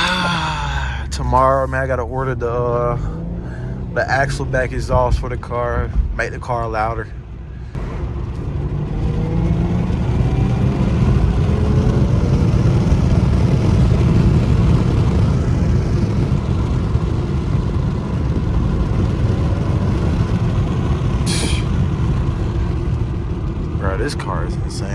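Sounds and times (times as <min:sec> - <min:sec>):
road noise: 0:00.0 - 0:06.1, 0:07.1 - 0:24.9
car engine drone: 0:00.0 - 0:06.5, 0:07.2 - 0:24.9.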